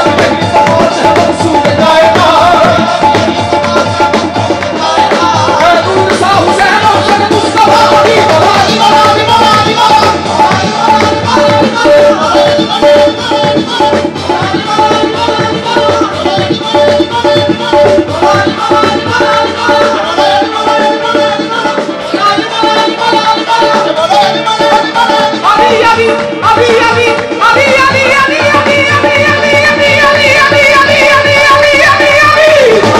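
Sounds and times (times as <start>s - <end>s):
harmonium melody: 0.0s - 32.9s
tabla and dholak rhythm: 0.0s - 32.9s.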